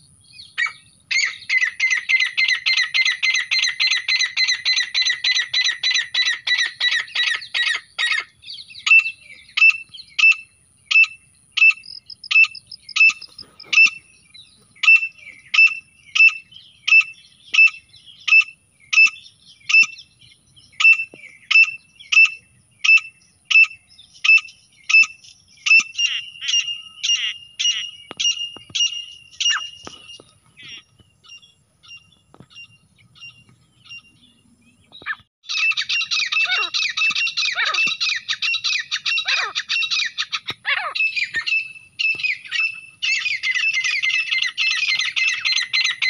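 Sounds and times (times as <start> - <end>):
francolin calling: 0.1 - 46.0.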